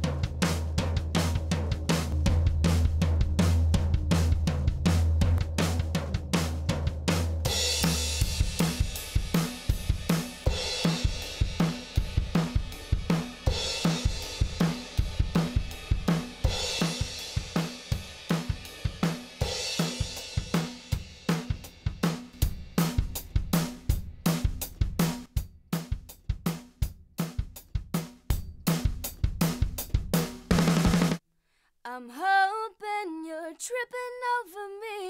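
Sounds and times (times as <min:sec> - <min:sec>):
rock drum beat: 0:00.0 - 0:31.2.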